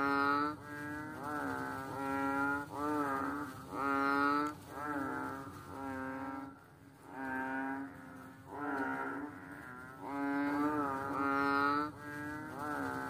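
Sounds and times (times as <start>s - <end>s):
toad croaking: 0.0s - 13.0s.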